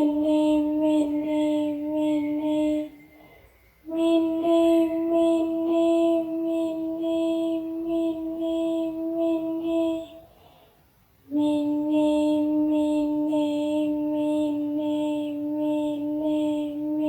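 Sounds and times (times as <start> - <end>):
high voice holding a buzzing note: 0.0 - 2.9, 3.9 - 10.2, 11.3 - 17.0.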